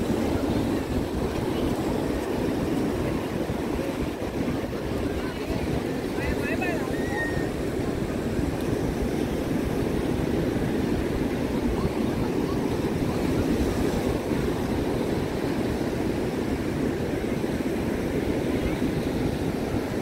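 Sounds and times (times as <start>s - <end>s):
ocean surf breaking on beach: 0.0s - 20.0s
wind buffeting microphone: 0.0s - 20.0s.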